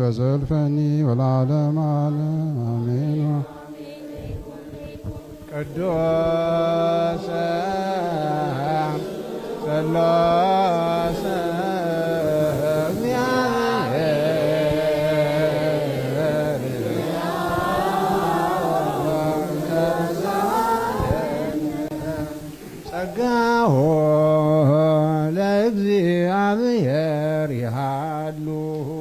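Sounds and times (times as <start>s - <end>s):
single strong voice singing: 0.0s - 29.0s
voices chanting long held notes: 0.8s - 29.0s.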